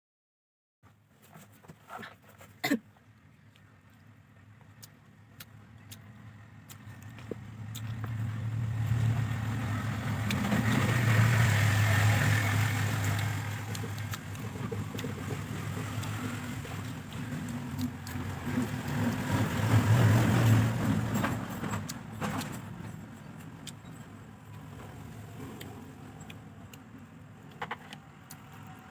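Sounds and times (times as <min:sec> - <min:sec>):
vehicle engine rumble: 0:03.0 - 0:28.9.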